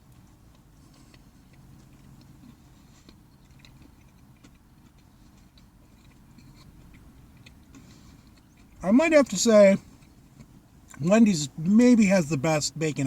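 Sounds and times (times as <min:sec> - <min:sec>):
faint chewing with crunches: 0:00.0 - 0:11.6.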